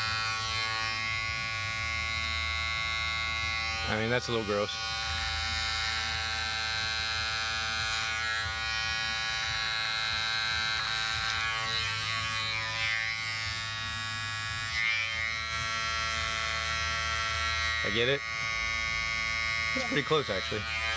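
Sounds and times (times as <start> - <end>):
electric hair clippers buzzing: 0.0 - 20.9.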